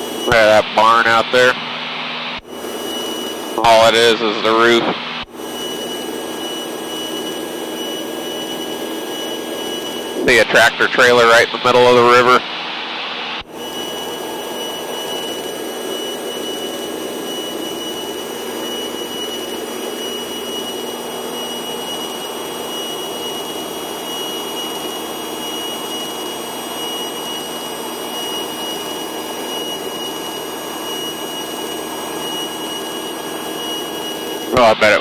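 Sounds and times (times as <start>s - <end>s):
propeller airplane droning: 0.0s - 35.0s
thin high whine: 0.0s - 35.0s.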